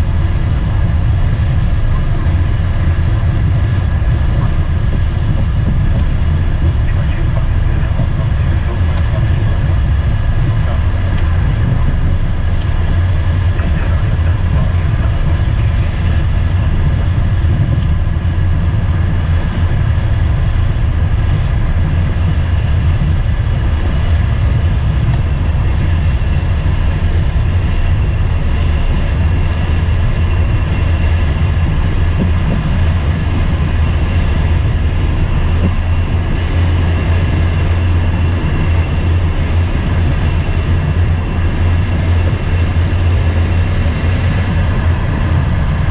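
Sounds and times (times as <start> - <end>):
jet cabin rumble: 0.0 - 45.9.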